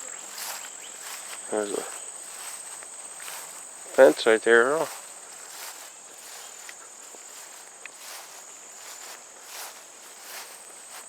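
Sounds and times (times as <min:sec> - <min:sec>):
insects trilling: 0:00.0 - 0:11.0
soft footsteps on trail: 0:00.0 - 0:11.0.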